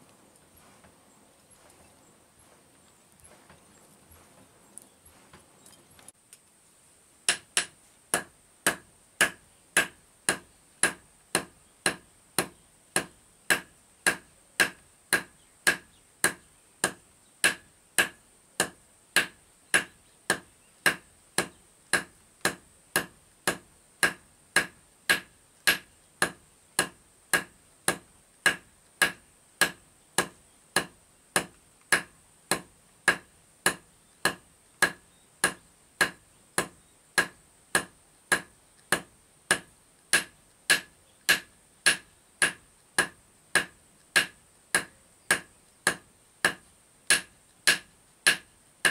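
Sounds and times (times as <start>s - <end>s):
hammer striking iron on anvil: 7.3s - 48.9s.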